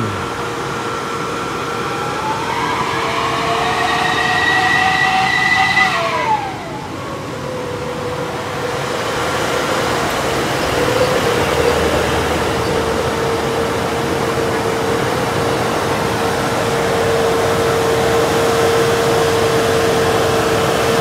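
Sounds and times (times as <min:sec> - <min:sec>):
diesel truck engine whine: 0:00.0 - 0:21.0
road noise: 0:00.0 - 0:21.0.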